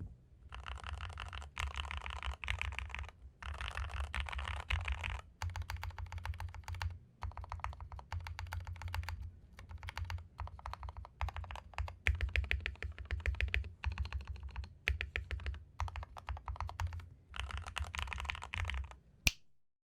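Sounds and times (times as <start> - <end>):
mechanical keyboard typing: 0.5 - 19.0.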